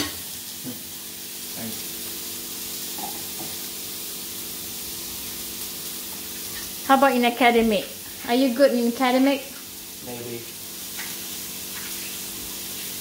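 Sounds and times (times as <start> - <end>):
steak sizzling in a frying pan: 0.0 - 13.0.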